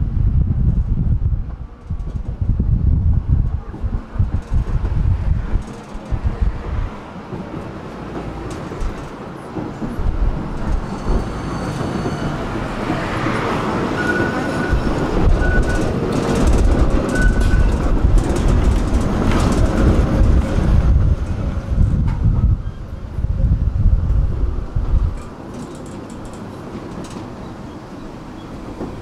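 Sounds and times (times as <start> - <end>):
tram rumbling on rails: 0.0 - 29.0
tram clattering: 0.3 - 29.0.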